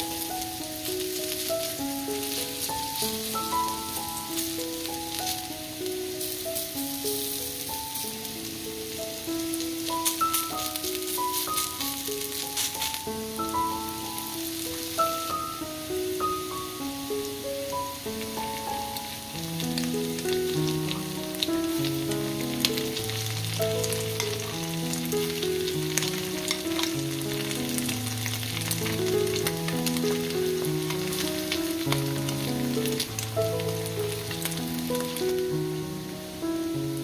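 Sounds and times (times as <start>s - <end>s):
background music with held notes: 0.0s - 37.0s
potato and egg sizzling in oil: 0.0s - 37.0s.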